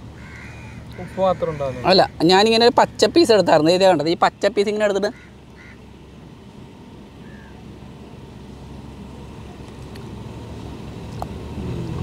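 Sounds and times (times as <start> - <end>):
distant vehicle engine rumble: 0.0 - 12.0.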